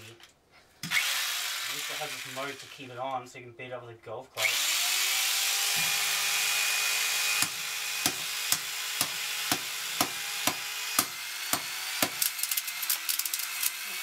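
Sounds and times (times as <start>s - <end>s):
jigsaw running: 0.8s - 2.7s, 4.4s - 14.0s.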